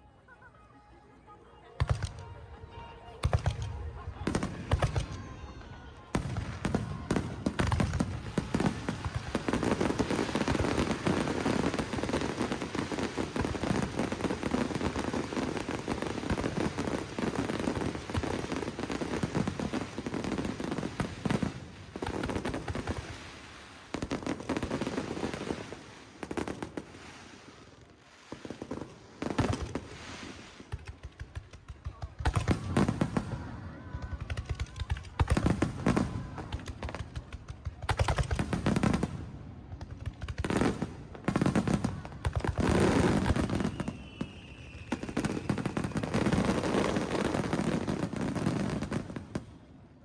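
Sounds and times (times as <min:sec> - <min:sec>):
fireworks bursting: 0:01.8 - 0:49.9.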